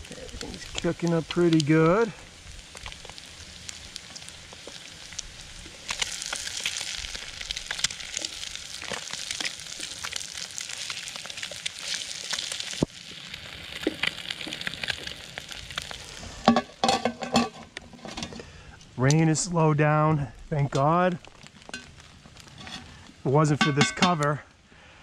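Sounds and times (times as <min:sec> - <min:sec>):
food sizzling in a frying pan: 0:00.0 - 0:18.5, 0:20.5 - 0:24.4.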